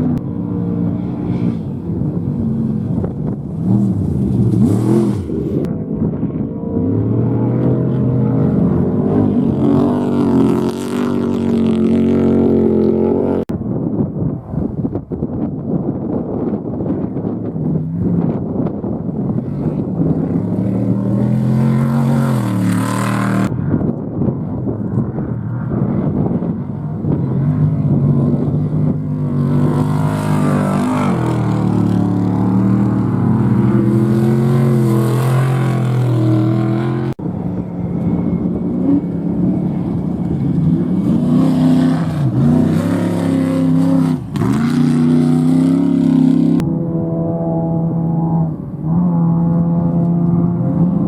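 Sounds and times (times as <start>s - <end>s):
race engines revving and passing: 0.0s - 13.5s, 16.0s - 51.0s.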